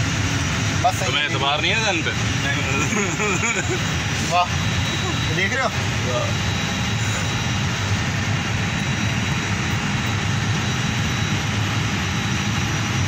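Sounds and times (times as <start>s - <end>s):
cooling fans rushing hum: 0.0s - 13.0s
thin high whine: 2.4s - 12.9s.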